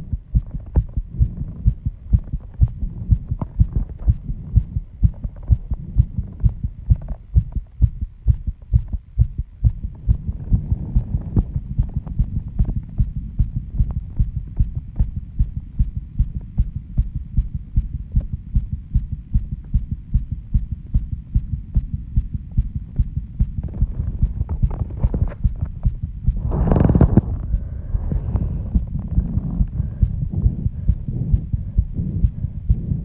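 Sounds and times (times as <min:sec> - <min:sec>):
heartbeat thumps: 0:00.0 - 0:33.0.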